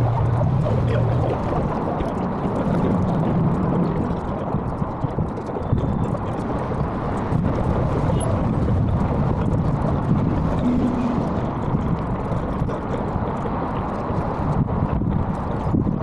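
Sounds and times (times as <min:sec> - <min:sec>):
motorbike and traffic rumble: 0:00.0 - 0:16.0
wind buffeting microphone: 0:00.0 - 0:16.0.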